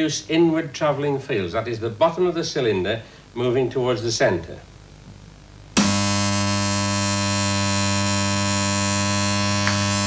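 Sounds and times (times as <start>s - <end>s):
electromagnet mains hum: 0.0s - 10.0s.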